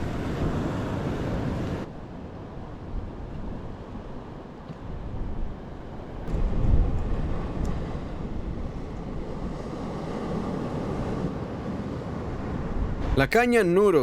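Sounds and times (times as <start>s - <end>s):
wind rumbling on microphone: 0.0s - 13.4s
sea waves against rocks: 0.0s - 13.8s.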